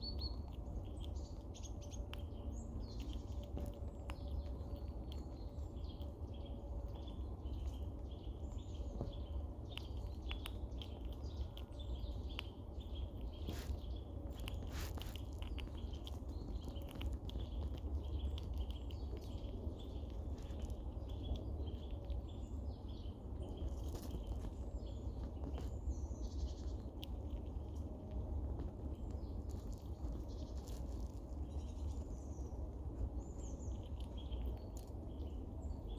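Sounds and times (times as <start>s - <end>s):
steady low rumble: 0.0s - 35.9s.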